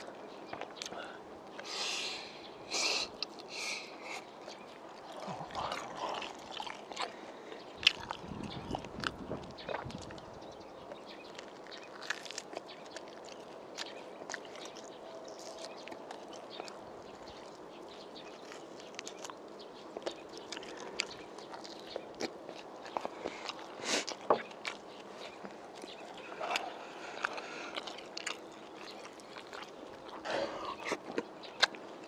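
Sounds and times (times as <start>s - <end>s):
man chewing food: 0.0s - 1.8s, 2.8s - 32.0s.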